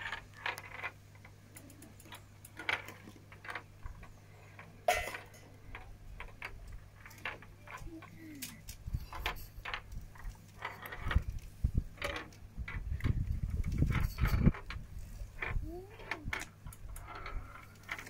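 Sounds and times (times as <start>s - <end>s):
steel ball rolling in plastic maze: 0.0s - 18.0s.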